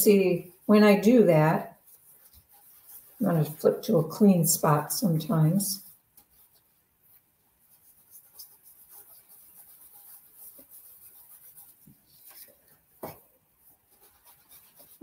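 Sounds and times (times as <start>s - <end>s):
cloth wiping on cardstock: 0.0s - 15.0s.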